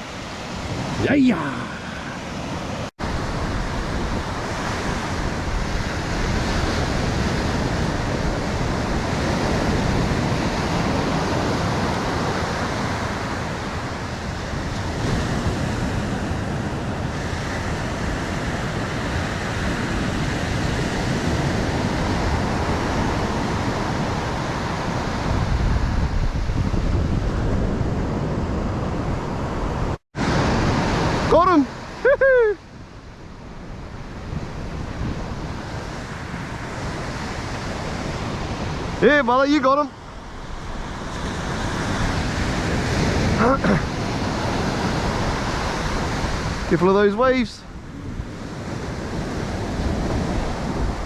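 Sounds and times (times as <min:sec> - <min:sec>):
surf breaking on beach: 0:00.0 - 0:51.0
wind on microphone: 0:01.7 - 0:51.0.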